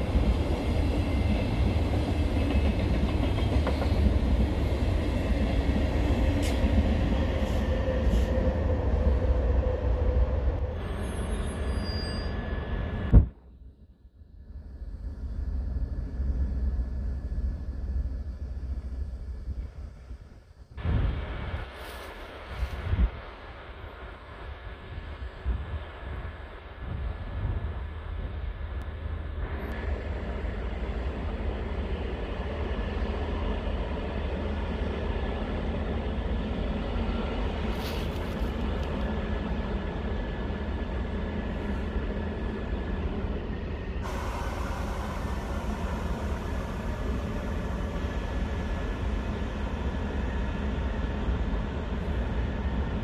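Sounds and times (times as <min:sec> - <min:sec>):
distant electric train rumble: 0:00.0 - 0:53.0.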